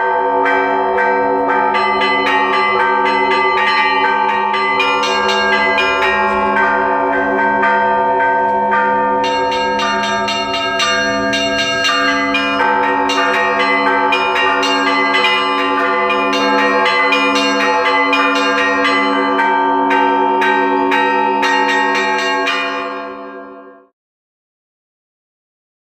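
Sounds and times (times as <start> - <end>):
large bells ringing: 0.0 - 23.9
small bells striking rapidly: 1.8 - 23.2.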